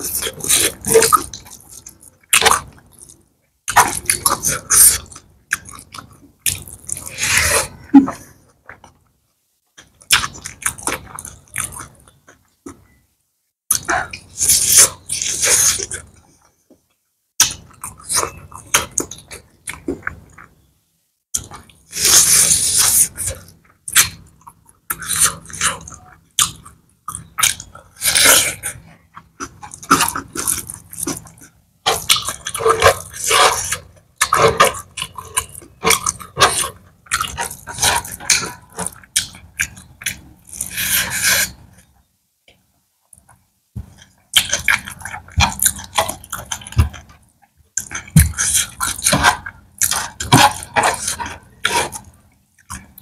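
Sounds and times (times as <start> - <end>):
chewing and lip-smacking: 0.0 - 9.1, 9.8 - 13.0, 13.7 - 16.5, 17.4 - 20.6, 21.4 - 41.9, 42.5 - 53.0.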